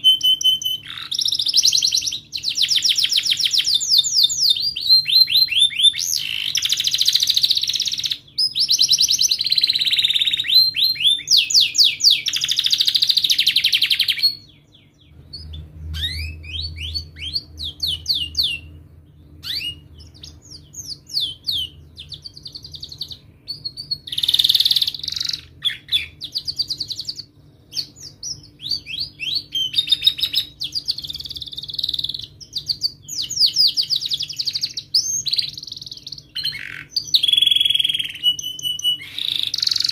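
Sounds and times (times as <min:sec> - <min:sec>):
canary trilling and chirping: 0:00.0 - 0:39.9.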